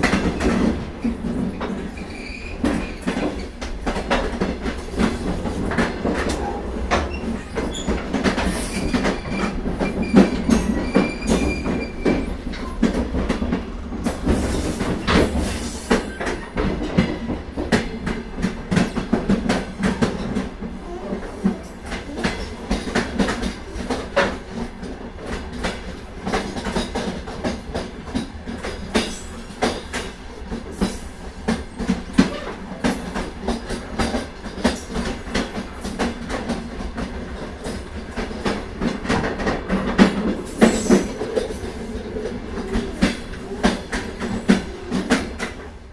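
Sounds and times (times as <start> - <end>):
clacks over rail joints: 0.0 - 45.9
train wheels rumbling on track: 0.0 - 45.9.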